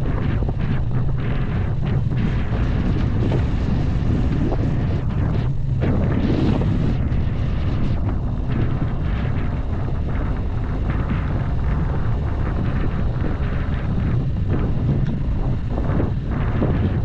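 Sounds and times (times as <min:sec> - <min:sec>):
car engine and road rumble: 0:00.0 - 0:17.0
wind buffeting microphone: 0:00.0 - 0:17.0.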